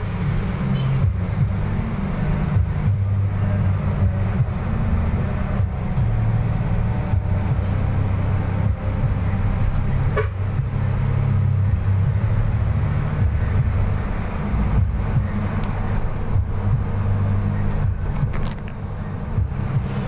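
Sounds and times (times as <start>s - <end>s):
vehicle engine and tyre noise: 0.0s - 20.0s.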